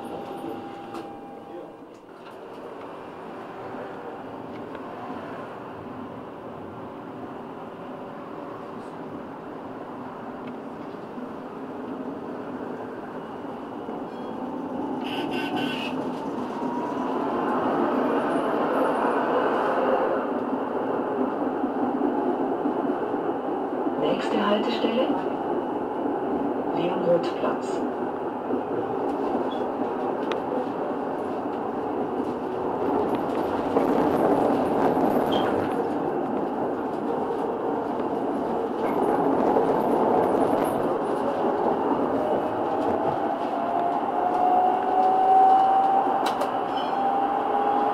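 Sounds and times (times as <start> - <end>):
tram running on track: 0.0 - 47.9.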